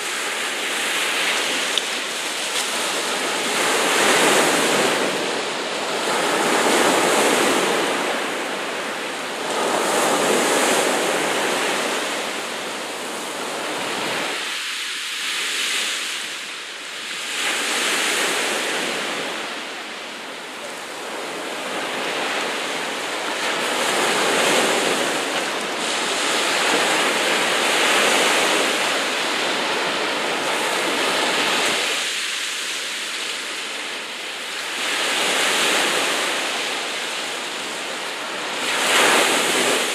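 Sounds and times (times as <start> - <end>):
sea waves breaking: 0.0 - 16.4, 17.0 - 39.9.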